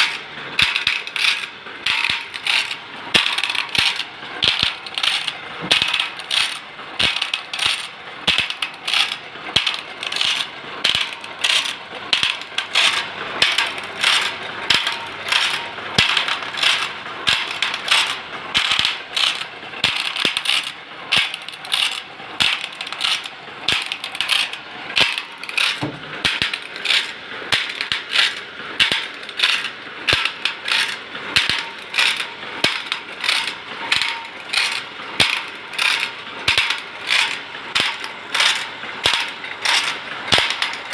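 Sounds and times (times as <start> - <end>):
feed mechanism clicks: 0.0 - 40.9
saw-sharpening machine grinding: 6.0 - 27.1, 29.2 - 40.9.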